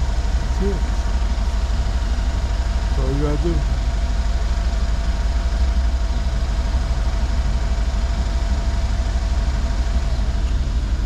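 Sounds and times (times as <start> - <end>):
car engine idling: 0.0 - 11.0
faint steady hum: 0.0 - 11.0.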